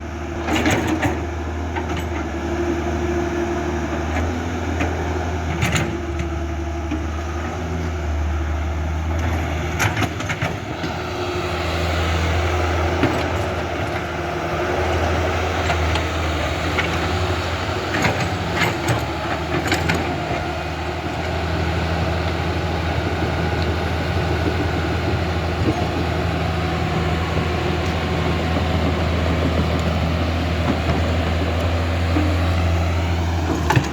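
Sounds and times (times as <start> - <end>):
excavator hum: 0.0 - 33.9.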